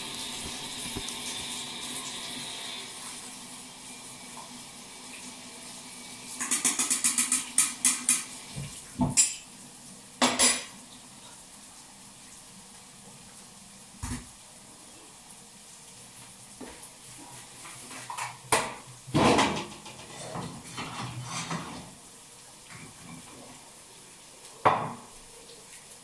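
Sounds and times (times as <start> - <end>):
tap water running into colander: 0.0 - 26.0.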